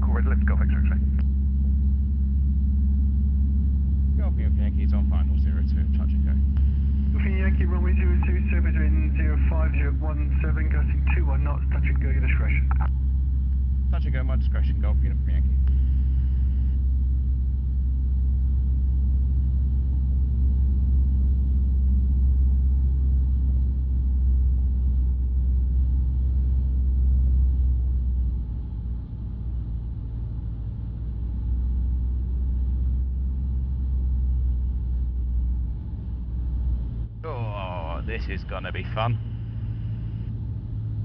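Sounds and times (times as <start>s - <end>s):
aircraft piston engine drone: 0.0s - 41.0s.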